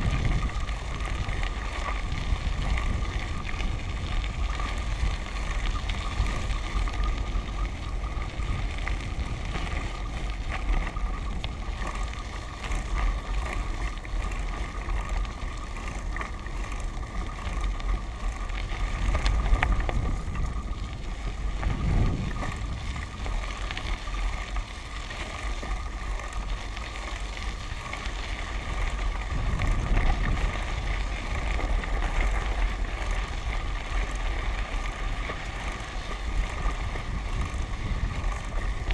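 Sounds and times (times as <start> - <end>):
tyres rolling over gravel: 0.0 - 38.9
wind rumbling on microphone: 0.0 - 38.9.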